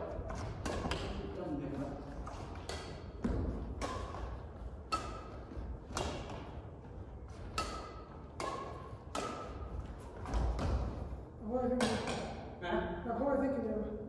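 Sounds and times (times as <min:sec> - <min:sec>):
racket hitting shuttlecock: 0:00.0 - 0:12.6.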